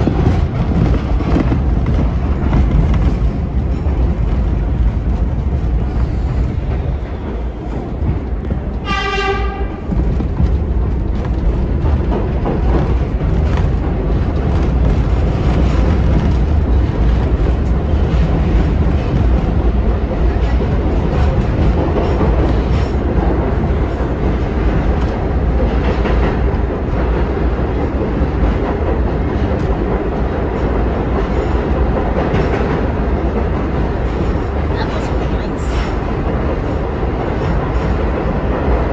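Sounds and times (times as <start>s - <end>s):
subway train rumble: 0.0s - 38.9s.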